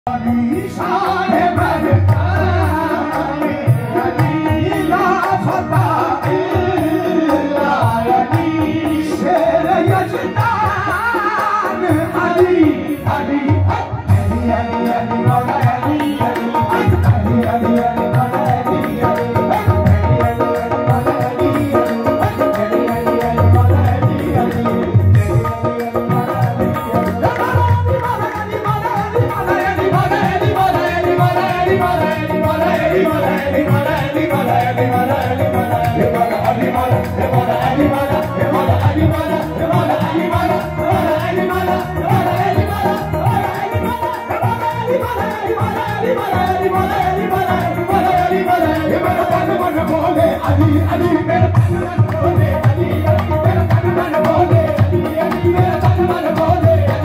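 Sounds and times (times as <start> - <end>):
harmonium: 0.0 - 57.0
hand drums in steady rhythm: 0.1 - 57.0
men singing: 0.1 - 57.0.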